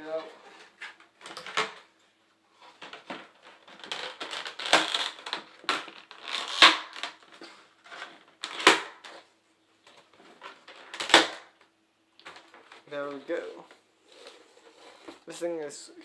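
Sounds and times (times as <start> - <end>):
plastic parts scraping and creaking: 0.0 - 1.9, 2.6 - 11.2, 12.2 - 15.5.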